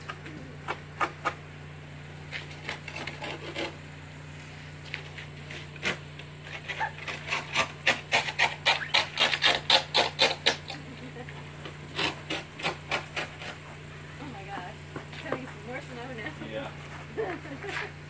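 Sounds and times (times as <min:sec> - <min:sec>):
ice scraper scraping car window: 0:00.0 - 0:18.0.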